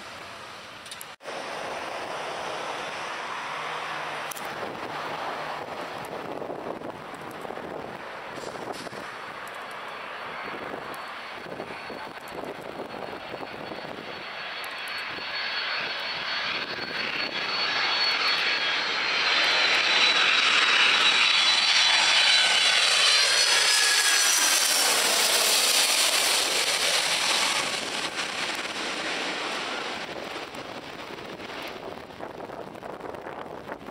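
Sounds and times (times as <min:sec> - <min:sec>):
jet airliner passing overhead: 0:00.0 - 0:33.9.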